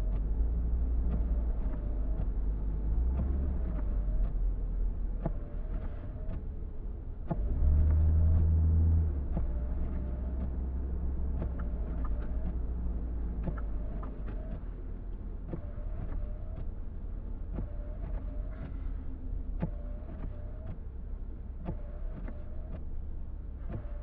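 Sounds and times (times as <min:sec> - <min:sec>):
car road and engine rumble: 0:00.0 - 0:24.0
windshield wipers knocking and sweeping: 0:00.0 - 0:24.0.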